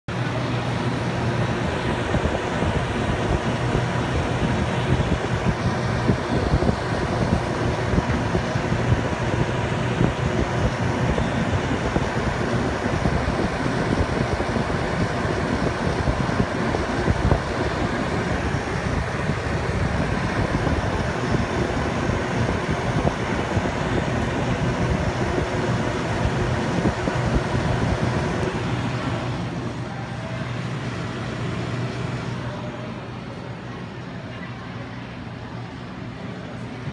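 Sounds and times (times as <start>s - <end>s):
fans rushing air: 0.0s - 36.9s
steady low hum: 0.1s - 36.9s.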